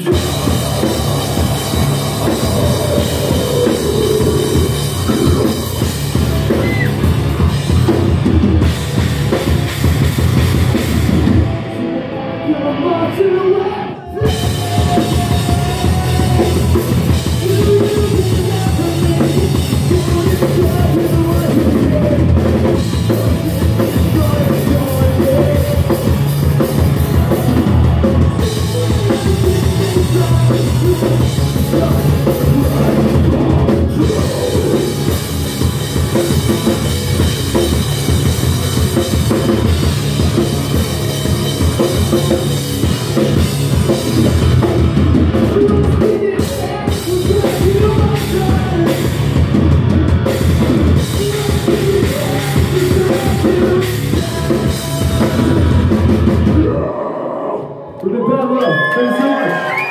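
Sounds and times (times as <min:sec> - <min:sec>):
bass drum beat: 0:00.0 - 0:11.5, 0:14.2 - 0:56.7
live rock band playing: 0:00.0 - 0:56.9.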